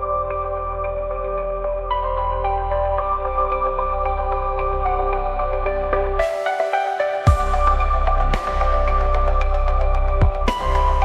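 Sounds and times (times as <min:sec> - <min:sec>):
low bass drone: 0:00.0 - 0:06.2, 0:07.3 - 0:11.0
dreamy synth pads: 0:00.0 - 0:11.0.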